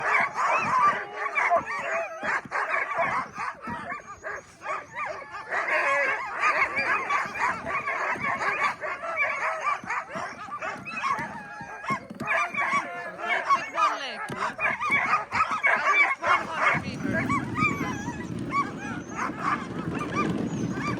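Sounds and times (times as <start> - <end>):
sled dogs barking and whining: 0.0 - 20.9.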